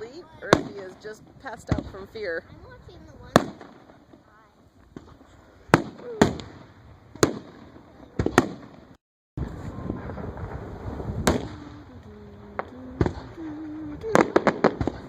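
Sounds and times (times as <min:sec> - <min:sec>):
fireworks bangs: 0:00.0 - 0:15.0
fireworks show background: 0:00.0 - 0:15.0.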